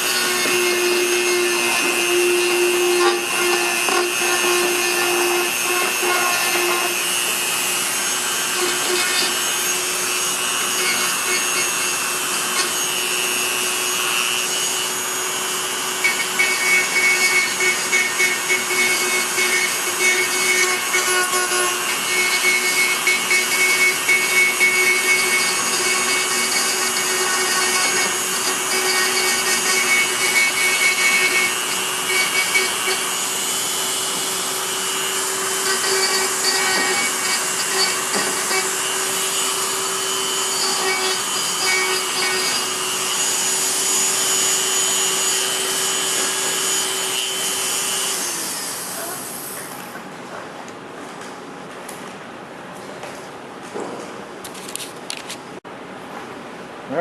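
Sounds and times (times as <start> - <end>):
electric grinder motor hum: 0.0 - 49.6
grinder rasping on plastic: 0.0 - 49.6.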